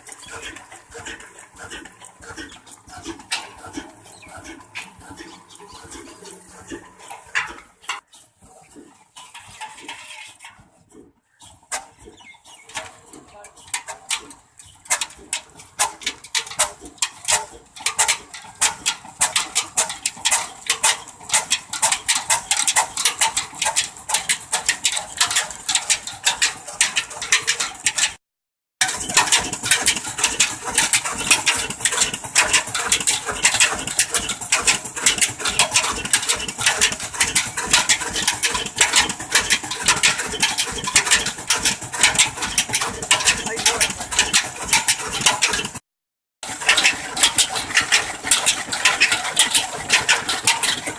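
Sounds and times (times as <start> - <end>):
chaff cutter machine clattering: 0.0 - 10.1, 11.7 - 28.2, 28.8 - 45.8, 46.4 - 50.9.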